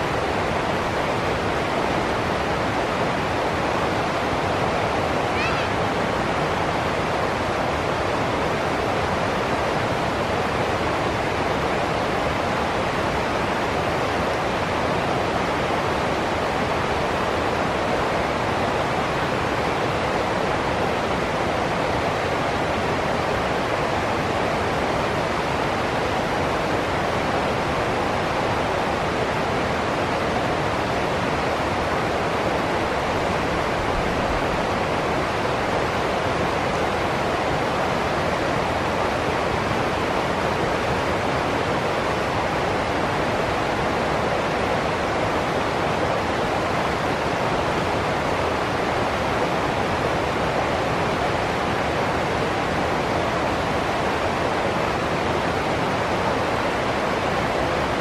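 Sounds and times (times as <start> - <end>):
stream rushing over cascades: 0.0 - 58.0.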